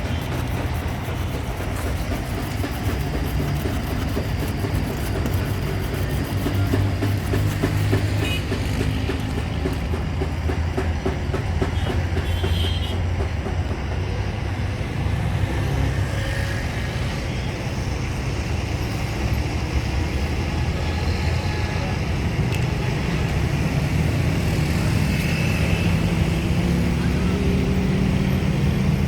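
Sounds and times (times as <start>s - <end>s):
engine running with clatter: 0.0s - 29.0s.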